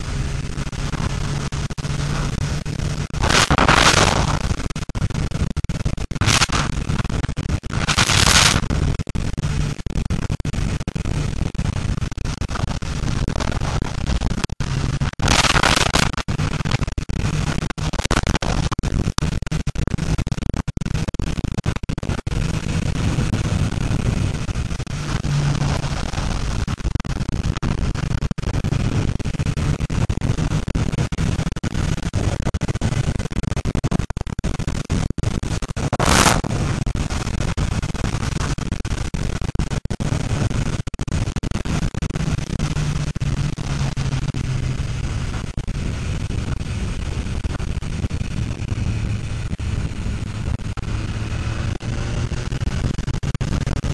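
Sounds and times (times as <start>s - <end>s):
motorcycle engine running: 0.0s - 34.6s, 35.8s - 38.4s, 41.7s - 53.9s.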